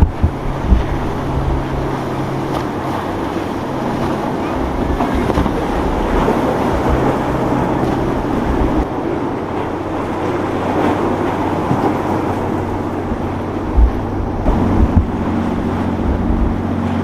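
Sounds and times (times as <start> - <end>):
motorboat engines running: 0.0 - 17.0
rush of waves and water: 0.0 - 17.0
wind buffeting microphone: 0.0 - 17.0.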